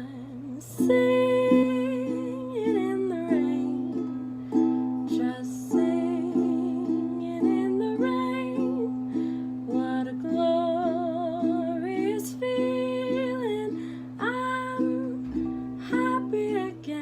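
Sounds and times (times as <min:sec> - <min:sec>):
person singing with vibrato: 0:00.0 - 0:04.1, 0:05.0 - 0:17.0
plucked string chords: 0:00.8 - 0:17.0.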